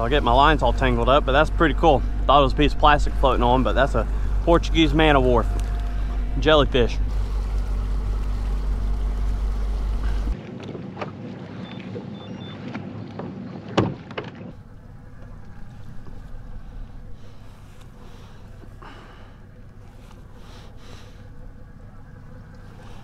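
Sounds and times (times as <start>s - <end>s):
outboard motor rumbling: 0.0s - 23.0s
water and hull noise: 0.0s - 23.0s
wind: 0.0s - 23.0s.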